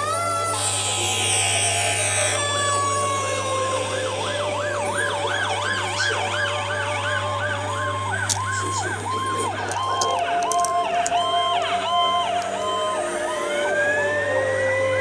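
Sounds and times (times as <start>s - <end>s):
two-tone siren: 0.0s - 15.0s
wailing fire truck siren: 0.0s - 15.0s.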